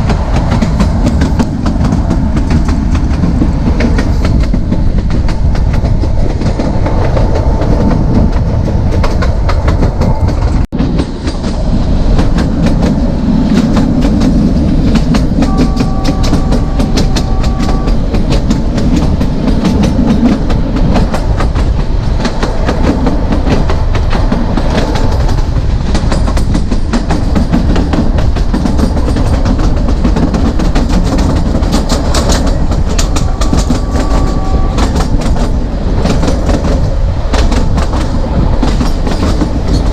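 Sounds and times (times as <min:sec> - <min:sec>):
train rumbling: 0:00.0 - 0:39.9
wheels clacking over rail joints: 0:00.0 - 0:39.9.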